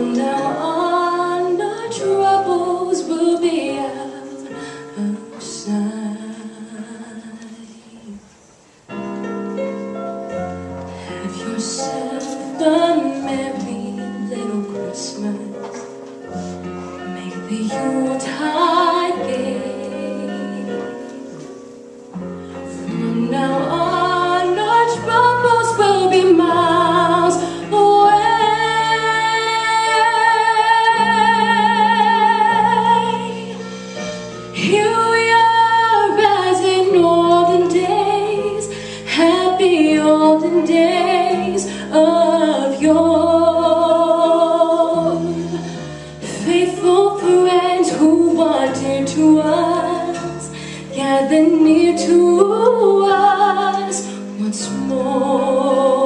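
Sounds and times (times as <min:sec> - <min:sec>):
women singing in harmony: 0:00.0 - 0:08.2, 0:11.2 - 0:15.8, 0:17.2 - 0:21.0, 0:22.9 - 0:33.6, 0:34.6 - 0:56.0
instrumental backing: 0:00.0 - 0:56.0.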